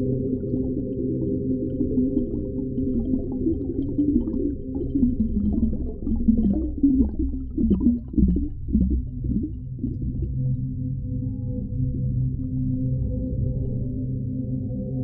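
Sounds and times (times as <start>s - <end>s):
underwater deep rumble: 0.0s - 15.0s.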